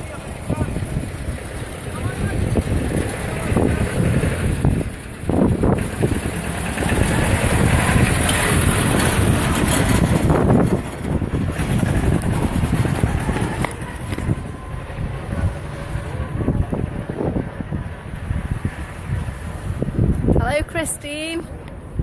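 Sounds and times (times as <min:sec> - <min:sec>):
motorboat engine running: 0:00.0 - 0:20.6
wind buffeting microphone: 0:00.0 - 0:22.0.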